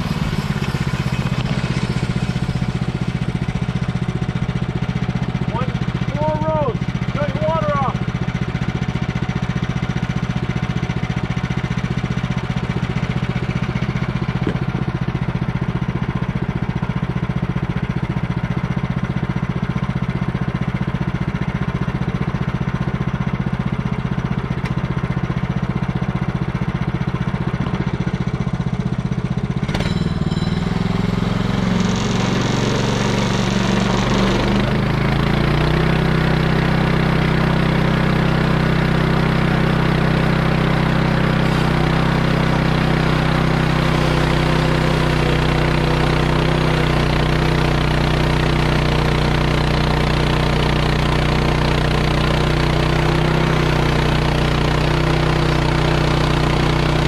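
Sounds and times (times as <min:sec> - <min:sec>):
gasoline engine running: 0:00.0 - 0:57.0.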